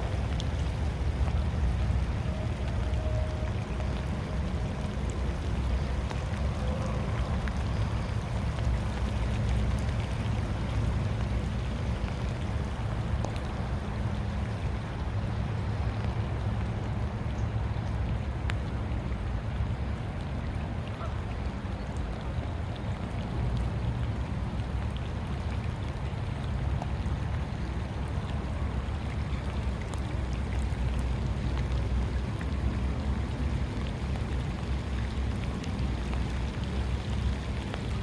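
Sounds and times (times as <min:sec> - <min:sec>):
raindrop ticks: 0:00.0 - 0:38.0
steady rain in woodland: 0:00.0 - 0:38.0.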